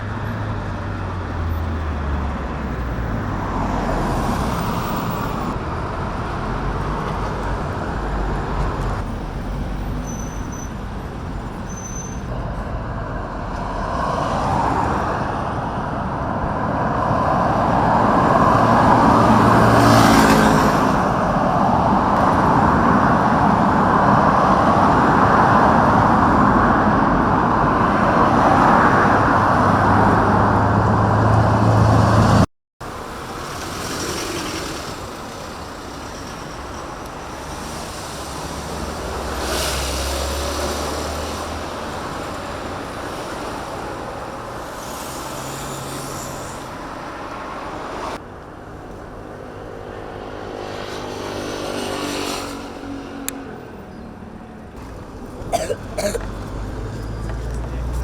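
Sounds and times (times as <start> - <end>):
loud vehicle noise: 0.0 - 58.0.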